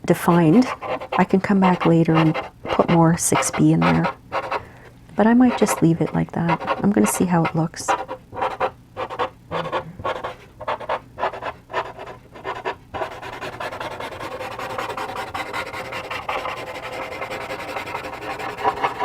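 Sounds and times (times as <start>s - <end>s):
charcoal rubbing on paper: 0.2s - 4.6s, 5.3s - 19.0s.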